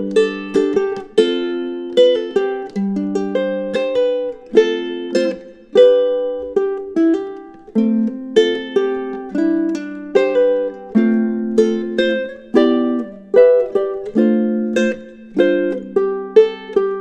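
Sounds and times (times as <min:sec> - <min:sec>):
ukulele played fingerstyle: 0:00.0 - 0:17.0.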